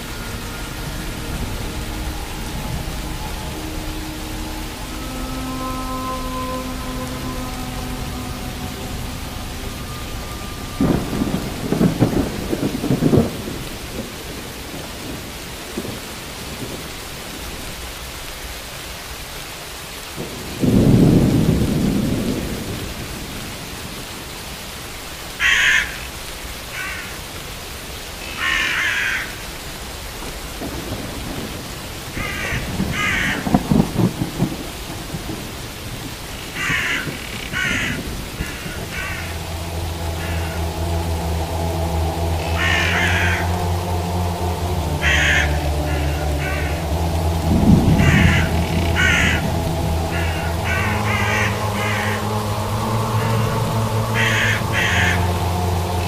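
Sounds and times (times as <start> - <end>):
low rolls of thunder: 0.0 - 24.8, 30.0 - 56.0
steady rain: 0.0 - 56.0.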